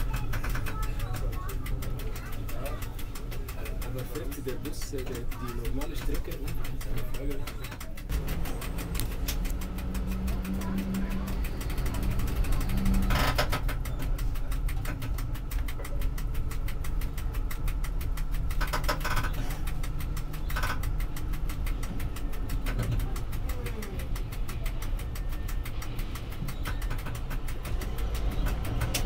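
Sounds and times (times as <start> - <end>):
rapid even clicking: 0.0 - 29.0
tram motor hum: 0.0 - 29.0.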